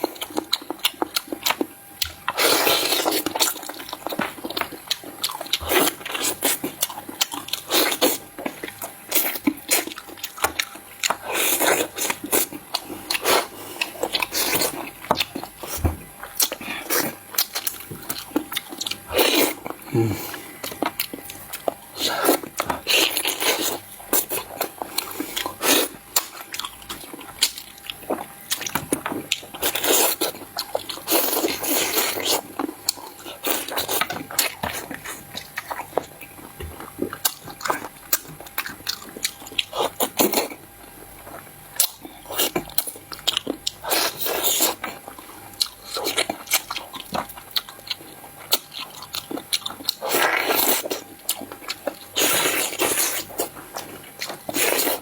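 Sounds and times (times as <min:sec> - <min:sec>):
person chewing and crunching: 0:00.0 - 0:55.0.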